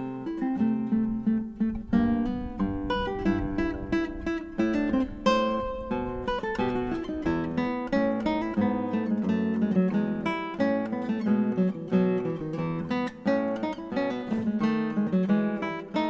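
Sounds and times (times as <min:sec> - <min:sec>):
solo guitar plucked piece: 0:00.0 - 0:16.0.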